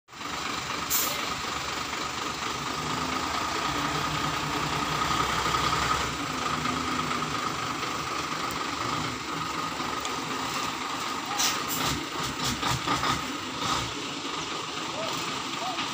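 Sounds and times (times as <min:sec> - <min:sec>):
diesel truck engine running: 0:00.1 - 0:15.9.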